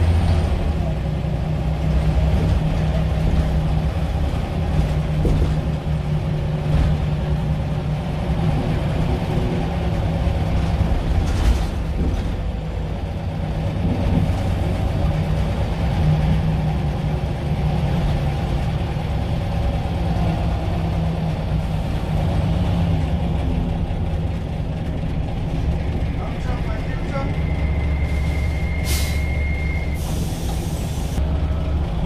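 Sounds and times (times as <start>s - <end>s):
bus diesel engine drone: 0.0s - 32.0s.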